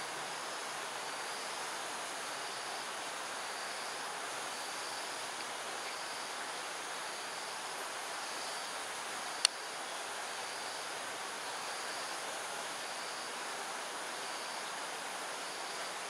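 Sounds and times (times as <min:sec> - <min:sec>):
dense hiss: 0:00.0 - 0:16.0.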